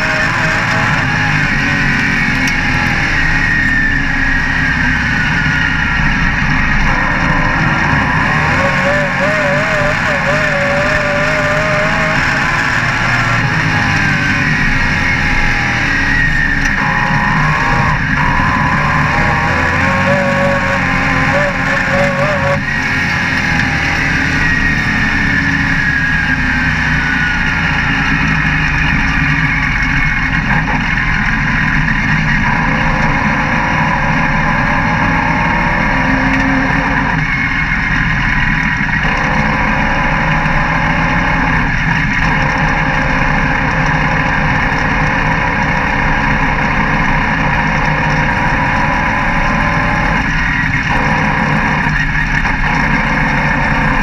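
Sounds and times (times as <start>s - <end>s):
race car engine at speed: 0.0s - 54.0s
wind: 0.0s - 54.0s.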